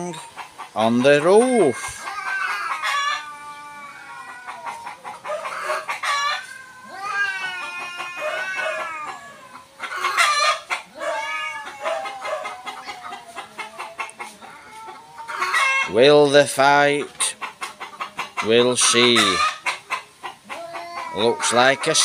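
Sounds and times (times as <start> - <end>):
cats yowling: 0.0 - 22.0.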